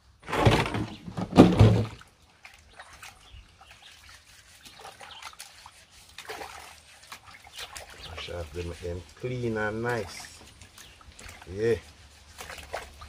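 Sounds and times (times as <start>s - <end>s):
water splashing in plastic bucket: 0.1s - 13.0s
sweet potatoes scrubbed in water: 1.8s - 13.0s.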